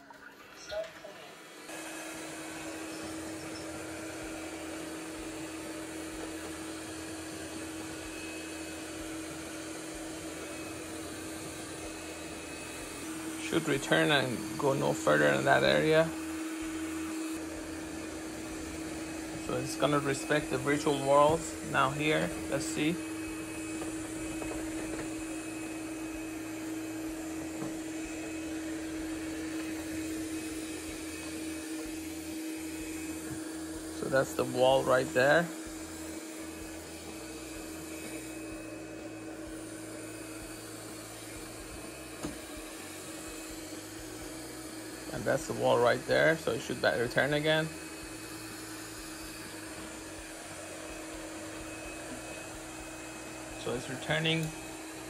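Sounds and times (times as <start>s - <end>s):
robot vacuum motor whirring: 0.1s - 55.0s.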